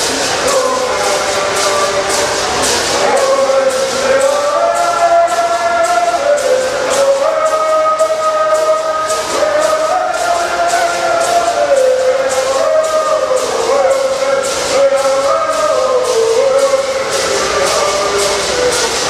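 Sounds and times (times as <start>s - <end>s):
gourd rattles shaken: 0.0s - 19.0s
group singing in unison: 0.0s - 19.0s.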